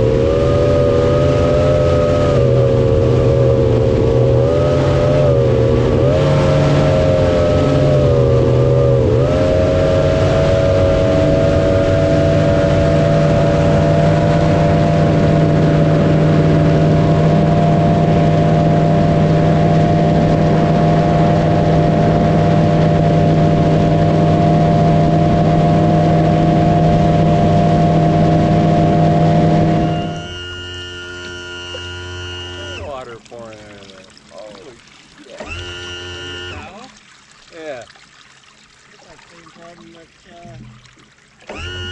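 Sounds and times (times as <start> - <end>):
motorboat engine running: 0.0 - 41.9.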